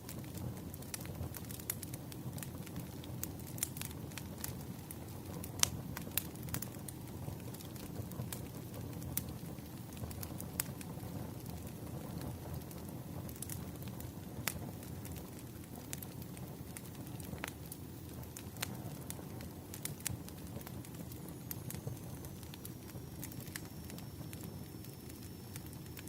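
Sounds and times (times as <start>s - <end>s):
fire crackling and popping: 0.0s - 26.0s
fire flames rumbling: 0.0s - 26.0s.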